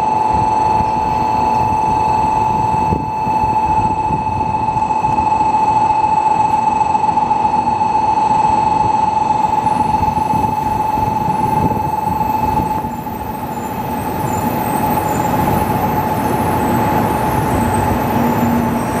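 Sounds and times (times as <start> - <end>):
high-pitched train whine: 0.0 - 19.0
train rolling noise: 0.0 - 19.0.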